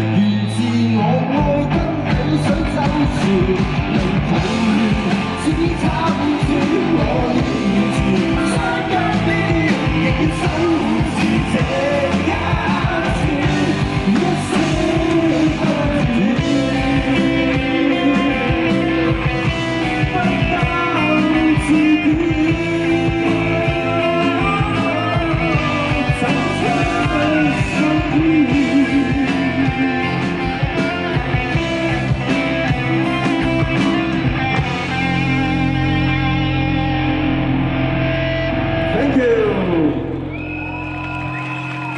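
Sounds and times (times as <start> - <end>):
electric guitar lead: 0.0 - 41.9
rock band playing: 0.0 - 41.9.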